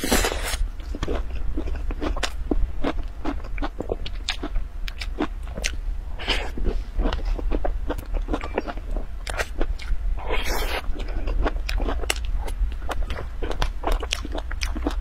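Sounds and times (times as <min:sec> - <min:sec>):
person chewing soft cake: 0:00.0 - 0:15.0.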